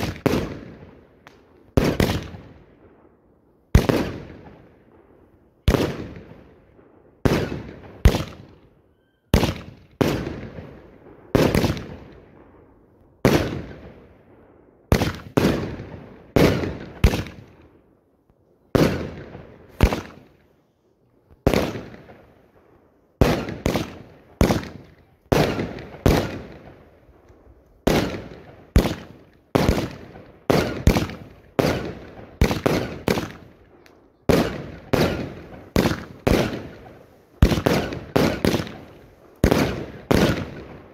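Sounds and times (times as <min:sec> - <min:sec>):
fireworks bangs with rumbling echo: 0:00.0 - 0:08.6, 0:09.3 - 0:17.7, 0:18.7 - 0:20.4, 0:21.4 - 0:40.9.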